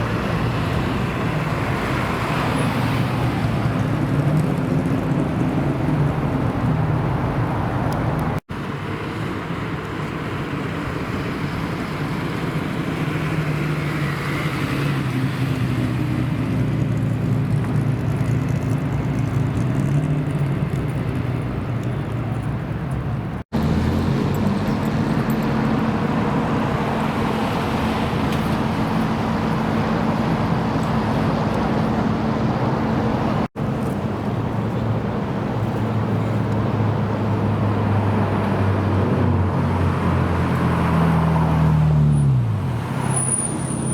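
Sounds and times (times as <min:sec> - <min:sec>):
car engines running: 0:00.0 - 0:43.9.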